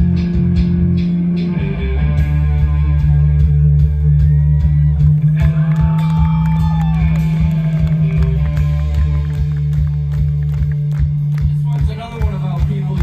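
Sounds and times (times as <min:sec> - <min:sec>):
electric guitar and bass chord: 0:00.0 - 0:12.0
live rock band: 0:00.0 - 0:13.0.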